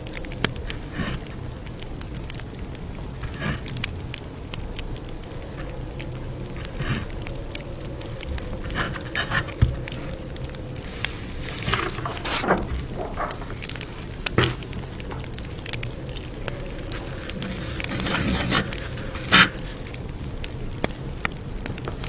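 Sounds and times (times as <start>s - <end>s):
campfire crackling: 0.0s - 22.0s
low fire rumble: 0.0s - 22.0s.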